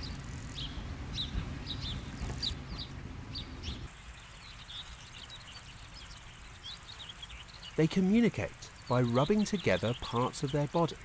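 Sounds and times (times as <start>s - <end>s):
low wind rumble: 0.0s - 9.2s
songbird chirping: 0.0s - 11.0s.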